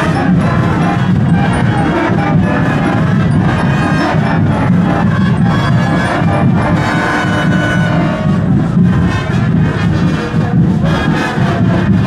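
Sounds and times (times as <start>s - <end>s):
drums beating: 0.0s - 12.0s
marching band brass: 0.0s - 12.0s.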